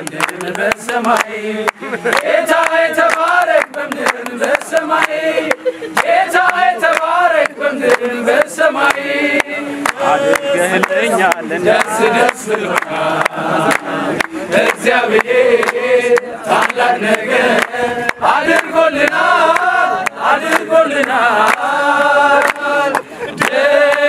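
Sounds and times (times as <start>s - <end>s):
men singing in unison: 0.0s - 24.0s
rhythmic handclapping: 0.0s - 24.0s.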